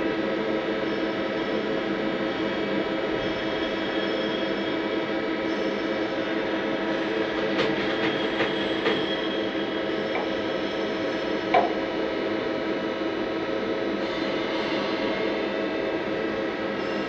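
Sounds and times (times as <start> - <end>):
lathe humming and whining: 0.0 - 17.0.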